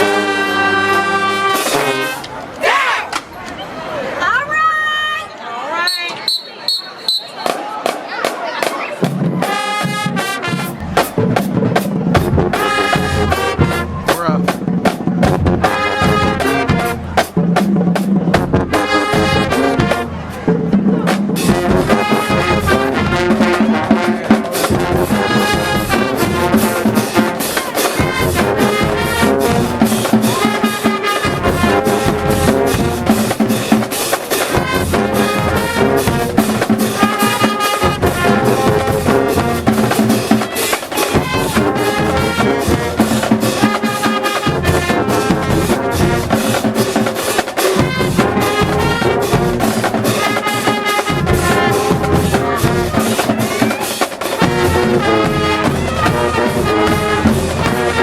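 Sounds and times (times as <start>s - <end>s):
trumpets and trombones: 0.0s - 3.1s, 8.7s - 58.0s
marching drums: 7.1s - 58.0s.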